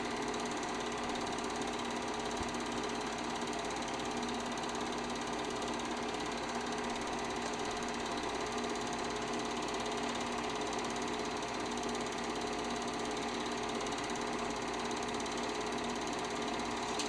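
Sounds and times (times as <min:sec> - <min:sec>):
projector hum: 0:00.0 - 0:11.1, 0:11.9 - 0:17.0
film projector clatter: 0:00.0 - 0:17.0.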